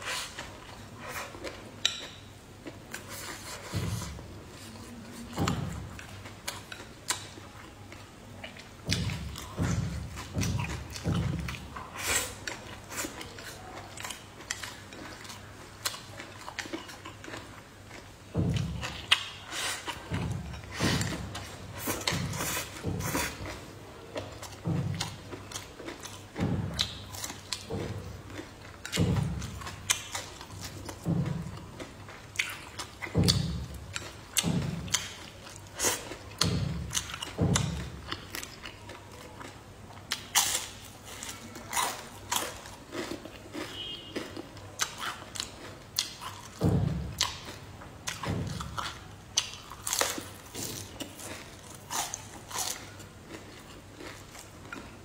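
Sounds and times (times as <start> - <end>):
person chewing: 0.0 - 55.0.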